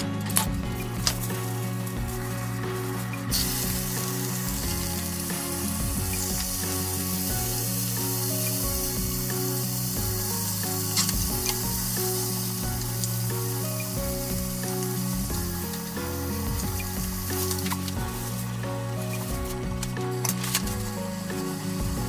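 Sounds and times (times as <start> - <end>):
squid frying in hot oil: 0.6 - 22.0.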